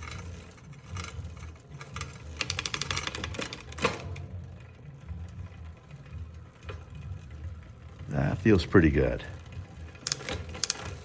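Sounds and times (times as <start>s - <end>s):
bicycle chain running: 0.0s - 11.0s
bicycle gears ticking: 0.0s - 11.0s.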